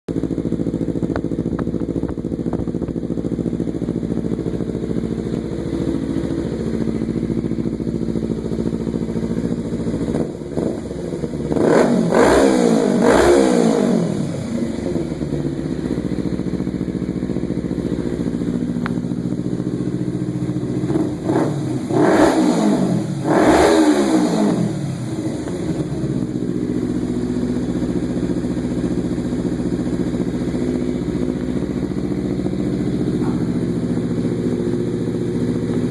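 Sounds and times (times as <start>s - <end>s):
motorcycle engine idling and revving: 0.1s - 35.9s.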